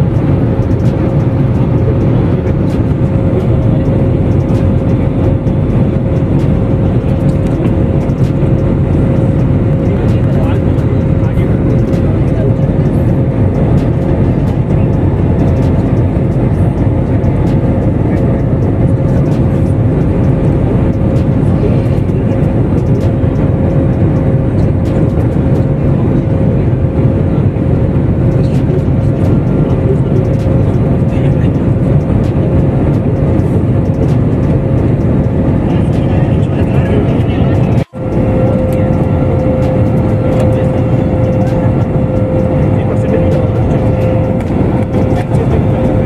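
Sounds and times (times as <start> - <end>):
jet engine rushing in cabin: 0.0 - 46.0
steady hum: 0.0 - 46.0.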